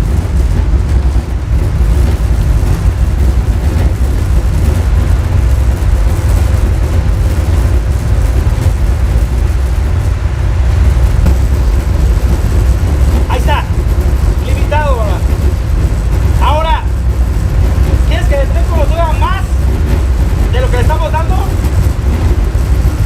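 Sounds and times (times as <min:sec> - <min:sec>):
bass-heavy sound over loudspeakers: 0:00.0 - 0:23.0.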